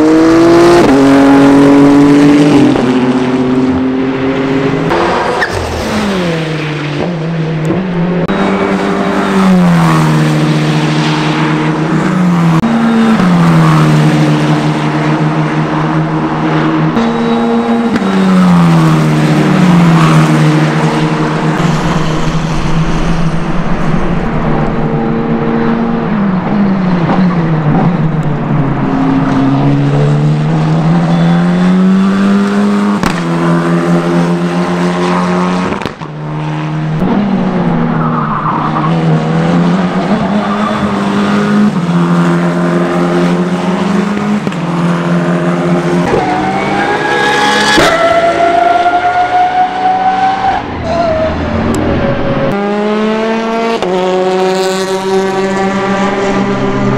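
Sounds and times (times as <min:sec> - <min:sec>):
race car engines: 0:00.0 - 0:56.9.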